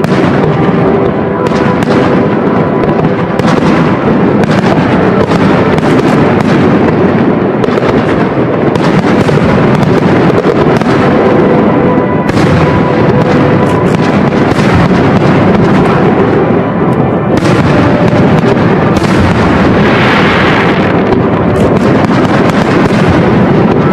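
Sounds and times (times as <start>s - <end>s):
continuous rumble: 0.0s - 23.9s.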